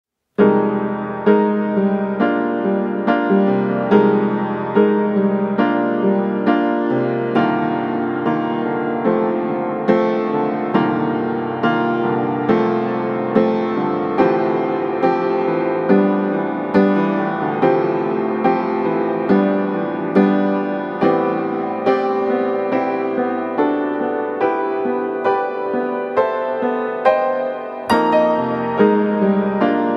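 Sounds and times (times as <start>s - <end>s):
slow piano music: 0.4s - 29.9s.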